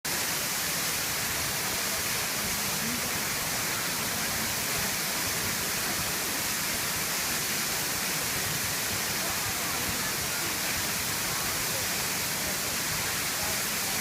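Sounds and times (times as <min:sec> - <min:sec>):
waterfall rushing: 0:00.1 - 0:14.0.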